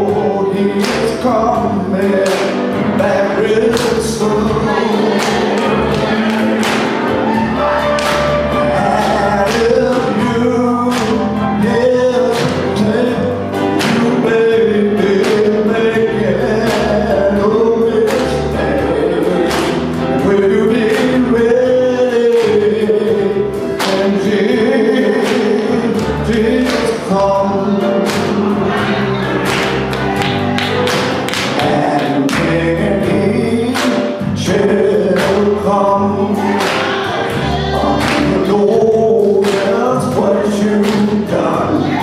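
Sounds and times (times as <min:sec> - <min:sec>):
drum hits: 0:00.0 - 0:42.0
gospel choir with band: 0:00.0 - 0:42.0.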